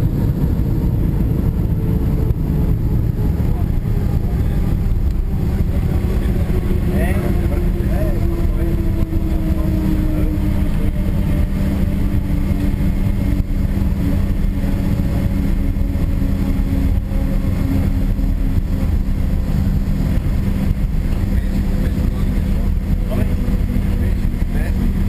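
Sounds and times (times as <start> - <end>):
airplane cabin rumble: 0.0 - 25.0
jet engines humming: 0.0 - 25.0.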